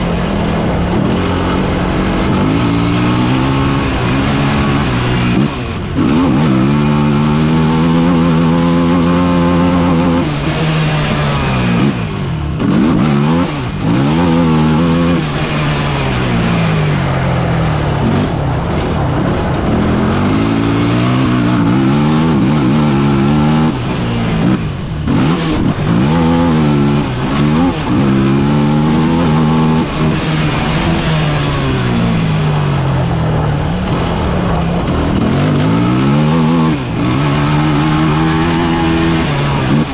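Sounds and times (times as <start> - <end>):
vehicle engine revving: 0.0 - 39.9
wind and road noise: 0.0 - 39.9.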